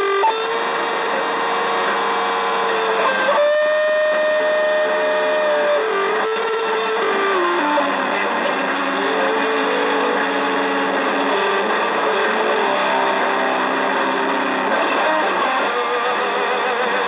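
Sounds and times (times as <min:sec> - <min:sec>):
buzzing held instrument notes: 0:00.0 - 0:17.0
hissy drone: 0:00.0 - 0:17.0.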